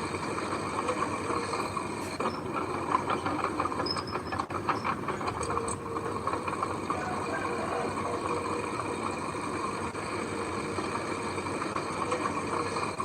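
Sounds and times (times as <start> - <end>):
heavy machinery engine running: 0.0 - 13.0.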